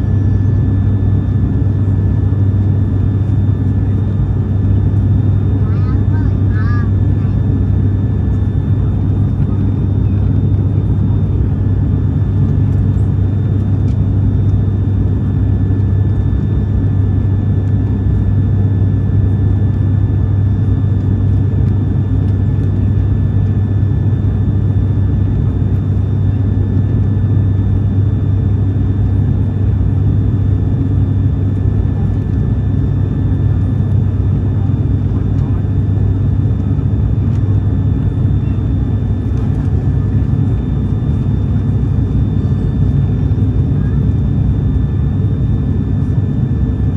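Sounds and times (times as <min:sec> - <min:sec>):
turboprop engine drone: 0:00.0 - 0:46.9.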